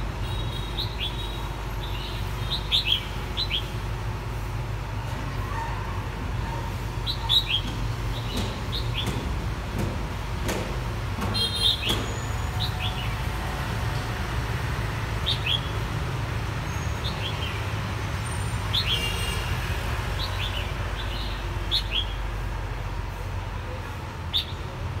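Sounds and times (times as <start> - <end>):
low rumble of city traffic: 0.0 - 25.0.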